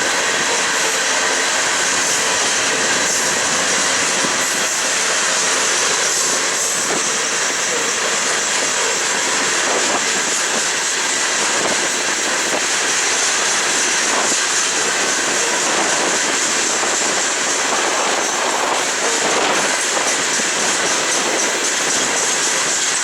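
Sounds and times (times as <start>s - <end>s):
train cars rolling on rails: 0.0s - 23.0s.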